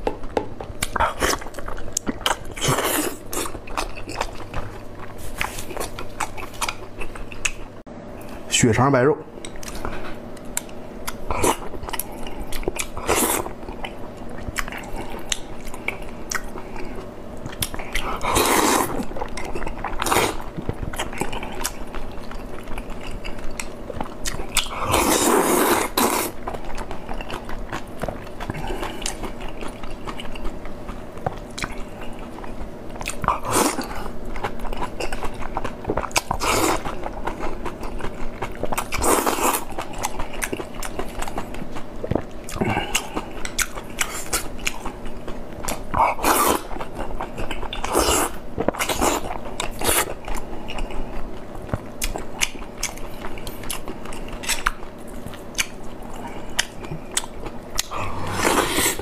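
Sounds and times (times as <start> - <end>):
wet chewing and biting: 9.4 - 59.0.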